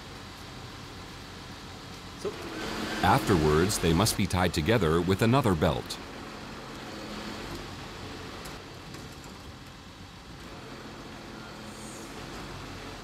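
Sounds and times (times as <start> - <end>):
outdoor noise: 0.0 - 13.0
truck engine humming: 0.0 - 13.0.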